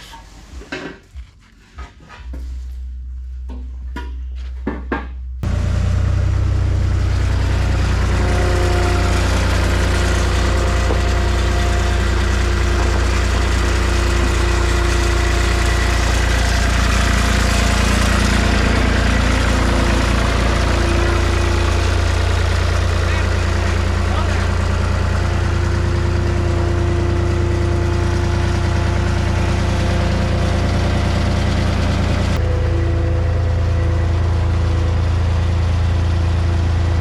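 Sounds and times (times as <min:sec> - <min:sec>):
engine running: 0:02.3 - 0:37.0.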